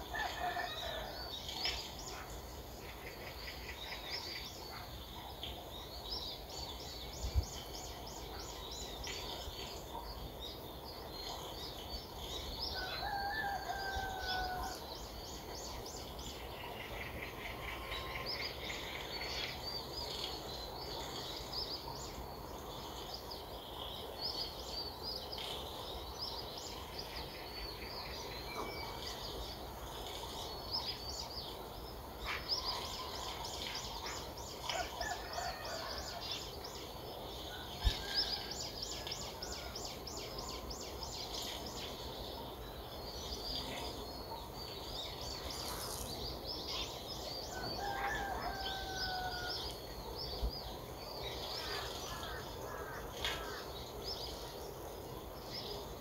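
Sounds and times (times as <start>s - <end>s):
long steady bird call: 0.0s - 56.0s
low background hiss: 0.0s - 56.0s
small birds chirping and trilling: 0.0s - 56.0s.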